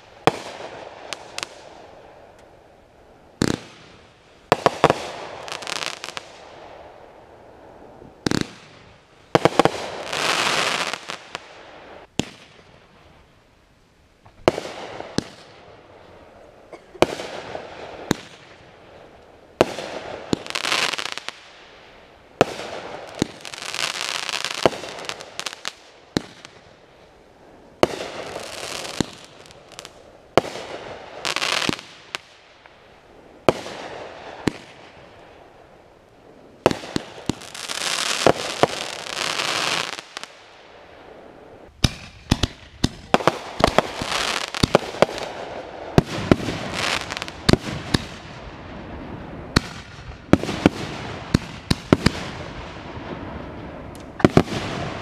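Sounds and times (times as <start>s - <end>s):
fireworks bangs: 0.0s - 2.5s, 3.4s - 12.8s, 14.3s - 15.9s, 17.0s - 32.8s, 33.4s - 35.8s, 36.5s - 55.0s
fireworks hissing crackle: 0.0s - 13.3s, 14.2s - 55.0s.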